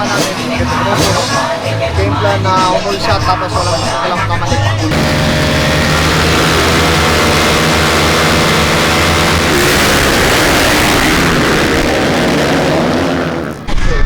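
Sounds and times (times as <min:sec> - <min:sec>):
motocross bike engines: 0:00.0 - 0:14.0.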